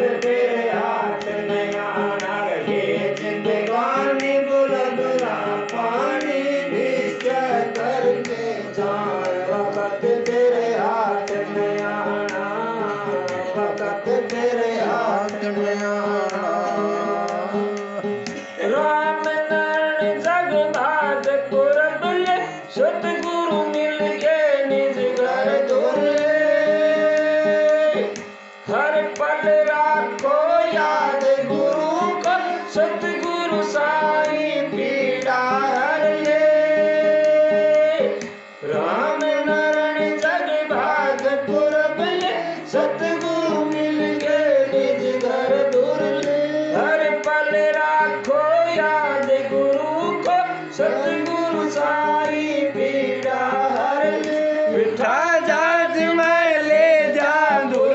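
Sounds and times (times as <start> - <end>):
men singing together: 0.0 - 57.9.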